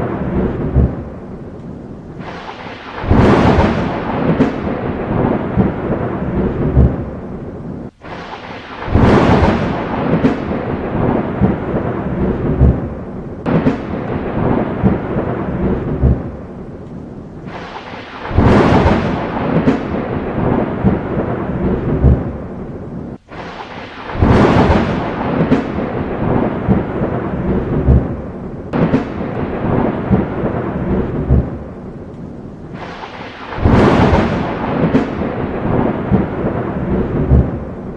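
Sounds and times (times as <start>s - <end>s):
steady rain: 0.0s - 37.9s
thunder claps rumbling: 0.0s - 37.9s.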